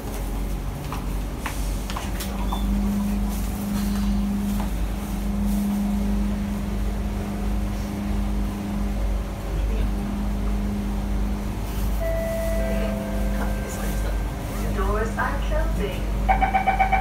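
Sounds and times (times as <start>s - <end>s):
deep rumble: 0.0s - 17.0s
train electrical hum: 0.0s - 17.0s.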